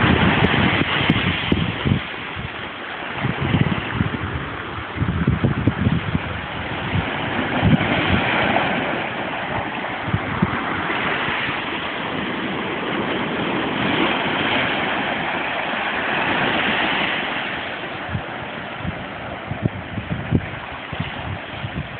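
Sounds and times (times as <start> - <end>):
surf washing over rocks: 0.0 - 21.9
wind buffeting microphone: 0.0 - 21.9.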